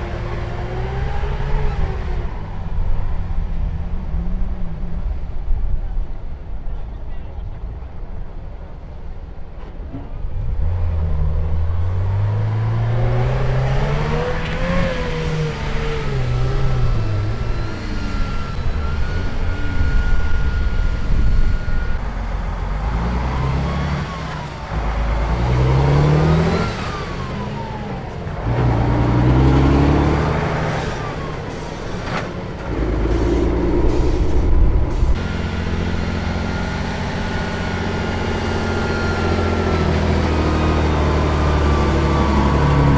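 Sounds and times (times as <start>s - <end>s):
truck engine revving: 0.0s - 3.2s, 10.4s - 42.9s.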